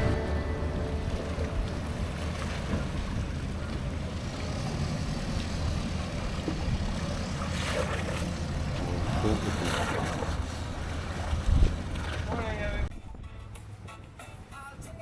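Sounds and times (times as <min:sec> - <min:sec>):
boat engine rumbling: 0:00.0 - 0:12.9.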